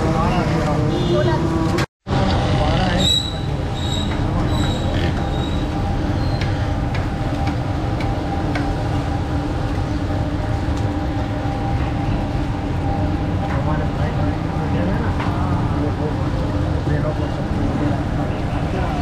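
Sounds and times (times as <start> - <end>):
rumble and hum of stall: 1.5 - 19.0.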